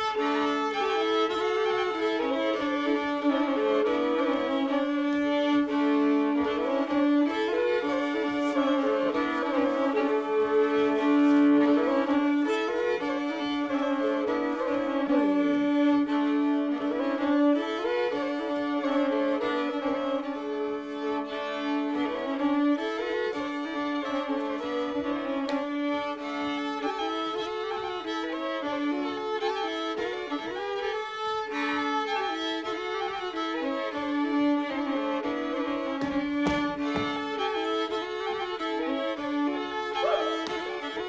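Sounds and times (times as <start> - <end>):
fiddle melody over drone: 0.0 - 41.0.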